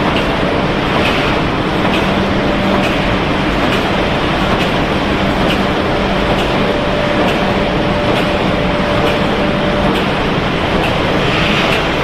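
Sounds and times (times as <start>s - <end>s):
factory machinery din: 0.0s - 12.0s.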